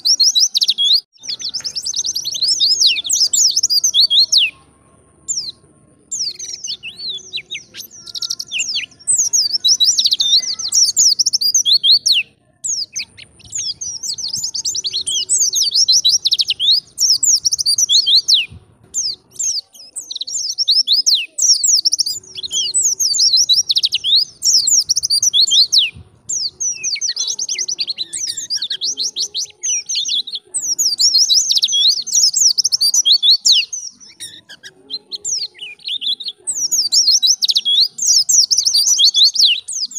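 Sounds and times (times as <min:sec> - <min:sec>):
bird twittering high-pitched: 0:00.0 - 0:39.9.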